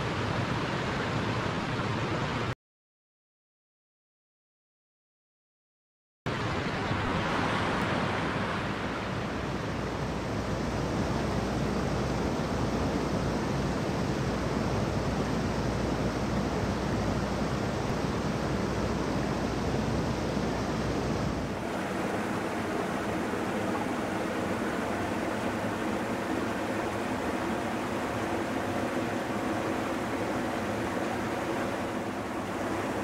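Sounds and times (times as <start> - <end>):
stream water rushing: 6.3 - 33.0.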